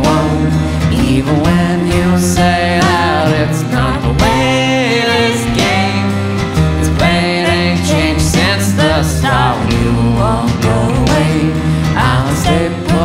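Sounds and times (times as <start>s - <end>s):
song with vocals guitar and drums: 0.0s - 13.0s.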